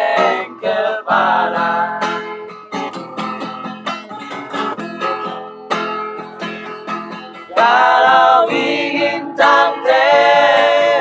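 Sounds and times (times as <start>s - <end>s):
guitar picking plucked notes: 0.0s - 11.0s.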